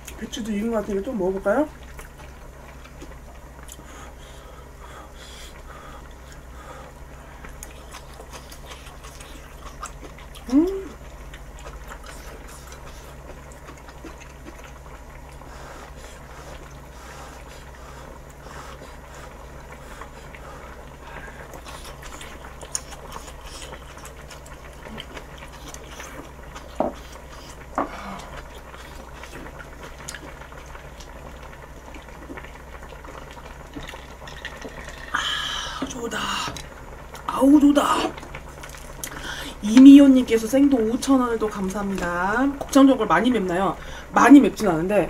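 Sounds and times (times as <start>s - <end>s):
pot bubbling: 0.0s - 45.0s.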